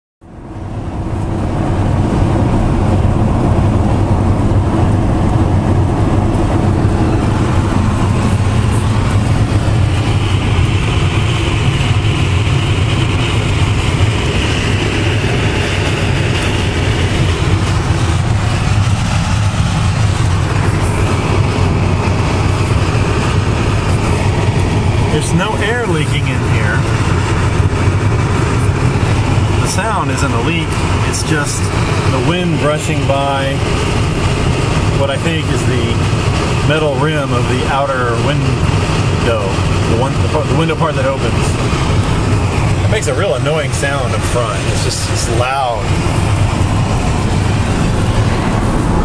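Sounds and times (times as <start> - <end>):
road noise rumble: 0.2 - 49.0
wind rushing at window: 0.3 - 37.6, 38.2 - 49.0.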